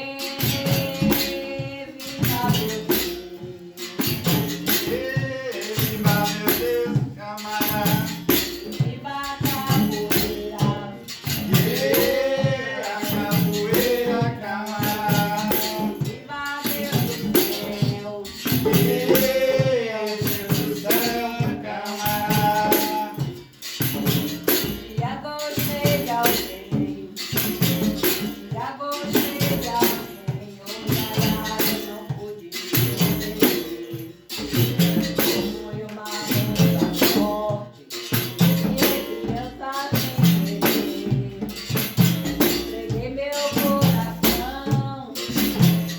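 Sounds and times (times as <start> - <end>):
person singing: 0.0 - 23.5, 24.1 - 45.9
berimbau struck rhythmically: 0.0 - 45.9
shaker rattling: 0.0 - 45.9.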